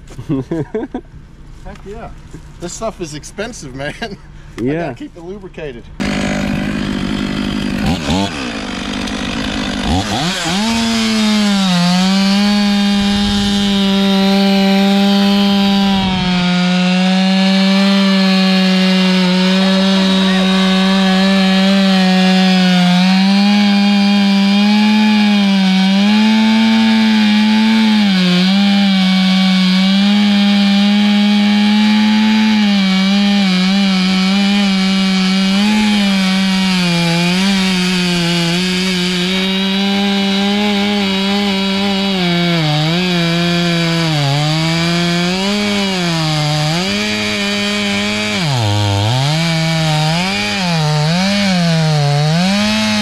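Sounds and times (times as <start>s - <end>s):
chainsaw cutting wood: 6.0s - 53.0s.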